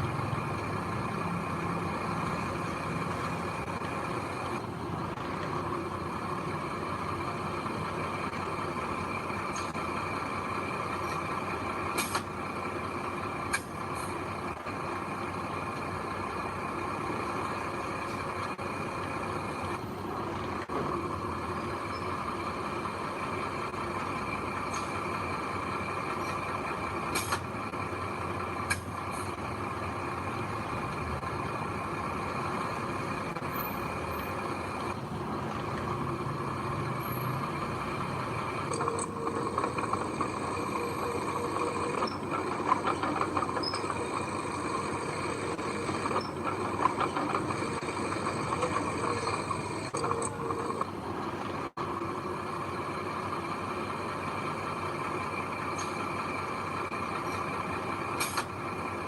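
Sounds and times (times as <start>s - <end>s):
diesel machinery running: 0.0s - 59.0s.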